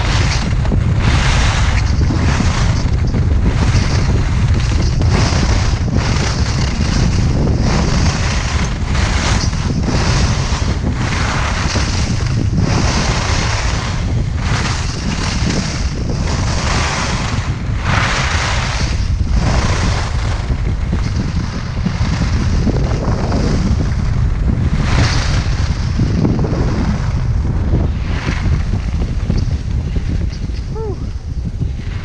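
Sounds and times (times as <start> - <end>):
skis scraping on icy snow: 0.0 - 32.0
wind buffeting microphone: 0.0 - 32.0.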